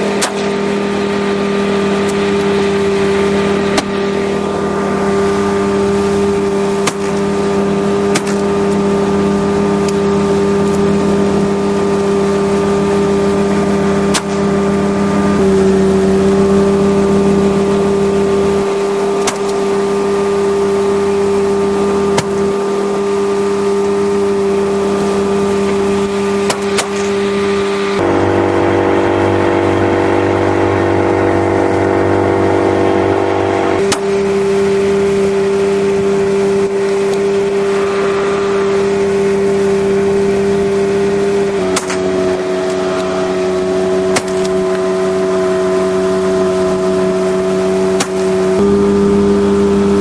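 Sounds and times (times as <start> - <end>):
speedboat engine running: 0.0 - 50.0
water rushing along hull: 0.0 - 50.0.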